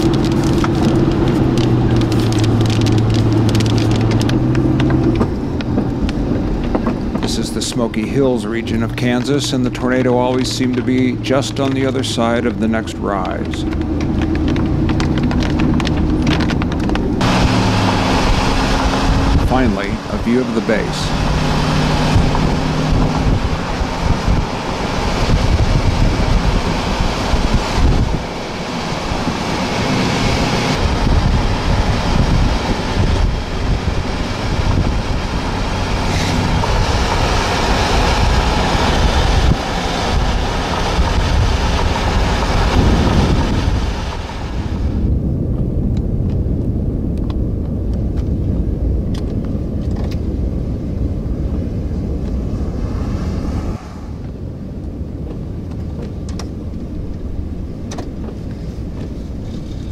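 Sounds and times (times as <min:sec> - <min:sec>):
storm wind buffeting microphone: 0:00.0 - 0:59.9.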